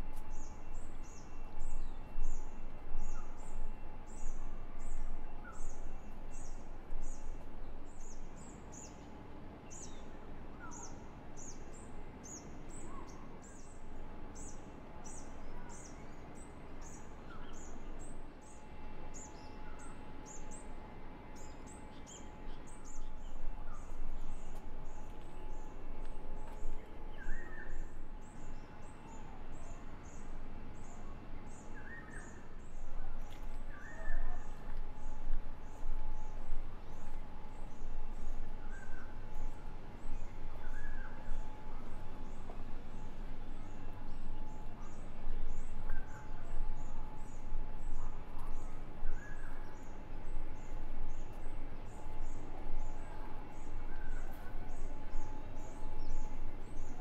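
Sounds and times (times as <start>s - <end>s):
faint steady tone: 0.0s - 57.0s.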